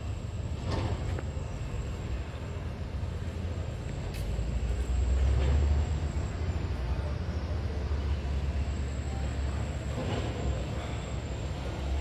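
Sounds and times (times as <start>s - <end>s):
outdoor street rumble and hiss: 0.0s - 12.0s.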